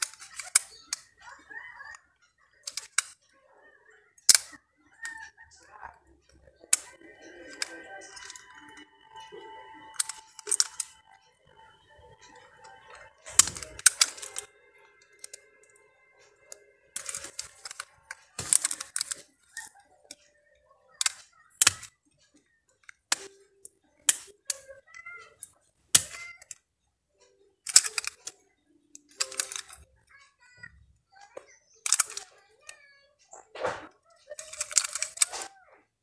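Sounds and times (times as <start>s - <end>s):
small plastic parts clicking: 0.0s - 3.3s, 4.2s - 5.3s, 6.4s - 26.7s, 27.6s - 35.7s.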